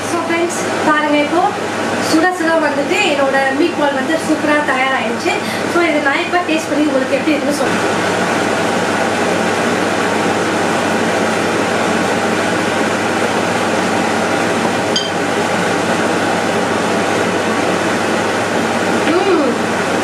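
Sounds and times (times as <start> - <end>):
fan running: 0.0 - 20.0.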